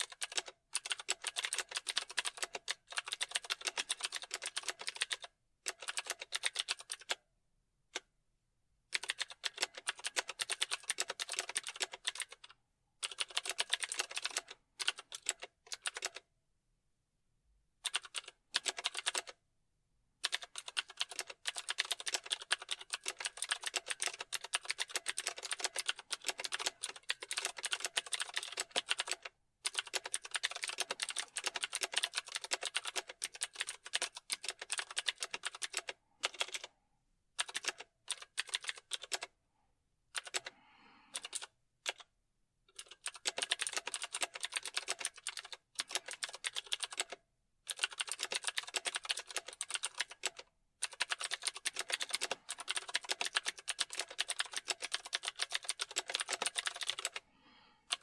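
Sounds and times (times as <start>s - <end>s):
typing on keyboard: 0.0s - 7.2s, 8.9s - 16.3s, 17.8s - 19.4s, 20.2s - 36.7s, 37.4s - 39.4s, 40.1s - 40.5s, 41.1s - 42.1s, 42.7s - 57.2s.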